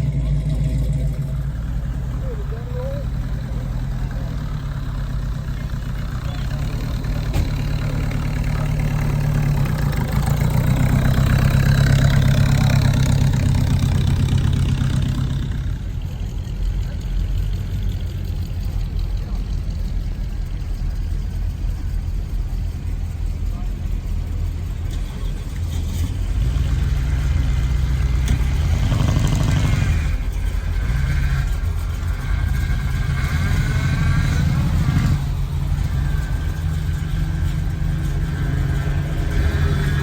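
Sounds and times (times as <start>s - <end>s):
car engine running at low revs: 0.0s - 40.0s.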